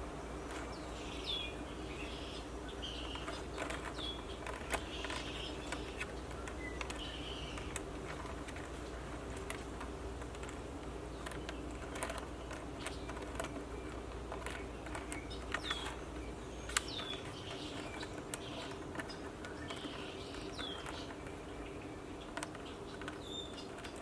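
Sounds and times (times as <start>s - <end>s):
bird chirping: 0.1s - 7.8s, 11.1s - 24.0s.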